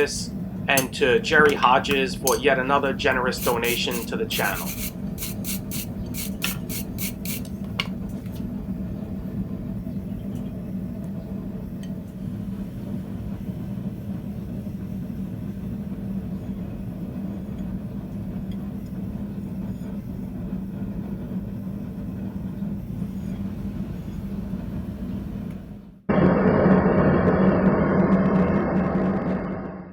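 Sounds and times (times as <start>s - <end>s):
low mechanical drone: 0.0s - 29.9s.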